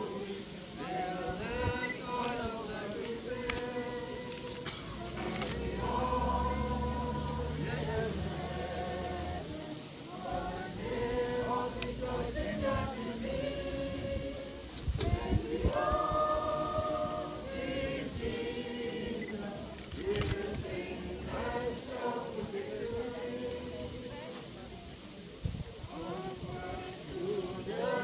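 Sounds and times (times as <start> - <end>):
crowd singing long notes: 0.0 - 24.7, 25.8 - 28.0.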